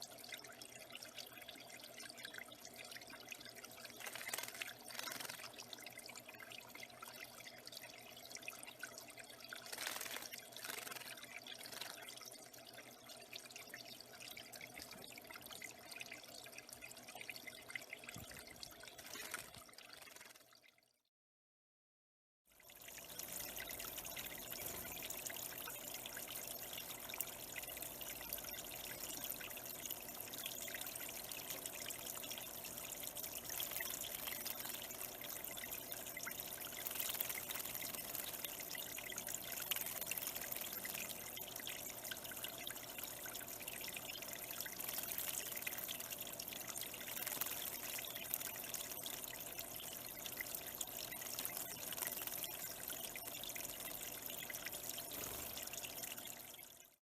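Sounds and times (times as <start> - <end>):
water trickling and pouring: 0.0 - 21.0, 22.5 - 57.0.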